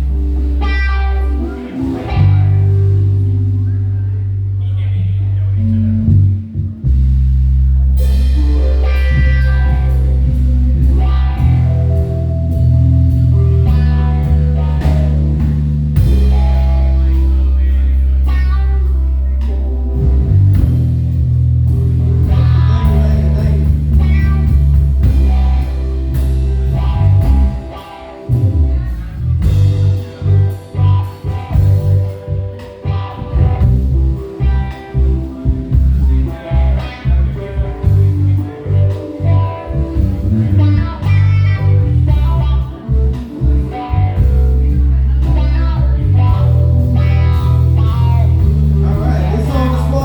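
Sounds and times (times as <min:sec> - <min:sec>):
heavy bass notes: 0:00.0 - 0:50.0
live band playing: 0:00.0 - 0:50.0.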